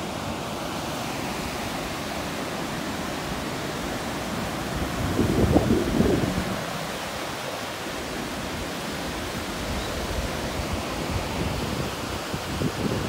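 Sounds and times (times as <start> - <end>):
waves washing onto shore: 0.0 - 13.0.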